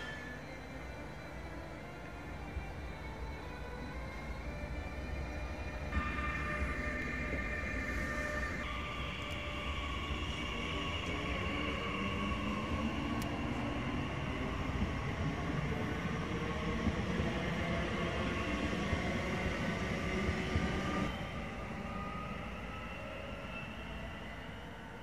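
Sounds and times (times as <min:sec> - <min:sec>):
electric traction motor whine: 0:00.0 - 0:25.0
train wheels rumbling: 0:00.0 - 0:25.0.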